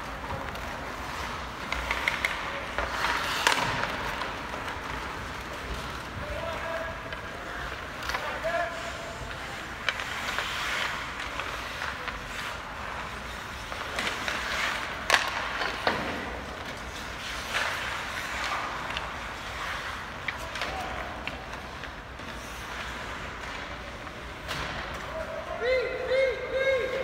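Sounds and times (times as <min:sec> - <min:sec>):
hockey sticks and puck clacking: 0:00.0 - 0:27.0
skates scraping on ice: 0:00.0 - 0:27.0.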